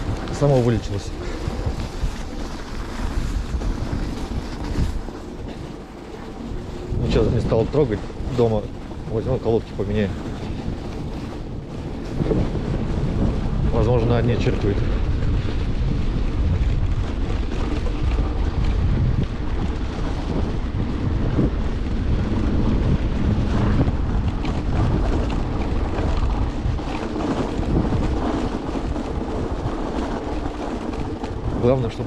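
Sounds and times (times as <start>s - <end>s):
low rumble of moving vehicle: 0.0s - 32.0s
wind buffeting microphone: 0.0s - 32.0s.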